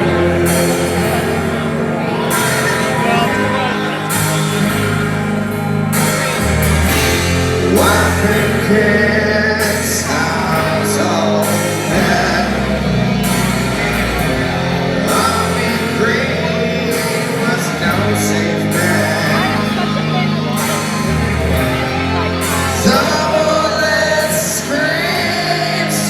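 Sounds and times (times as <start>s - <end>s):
rock music with singing: 0.0s - 26.0s.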